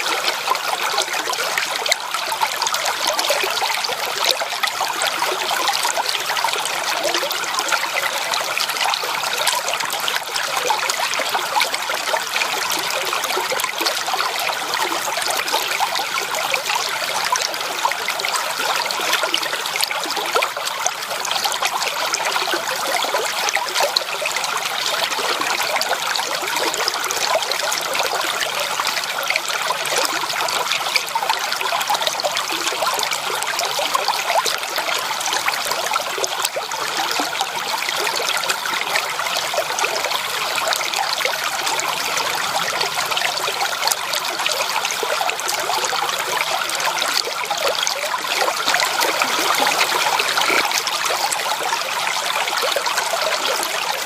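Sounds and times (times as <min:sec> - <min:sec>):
water running over rocks: 0:00.0 - 0:54.0.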